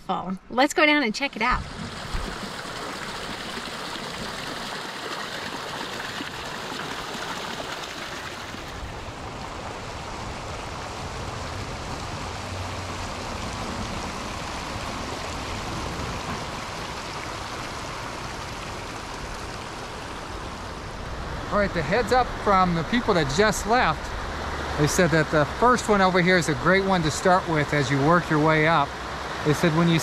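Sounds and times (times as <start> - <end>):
water splashing over rocks: 1.6 - 30.0.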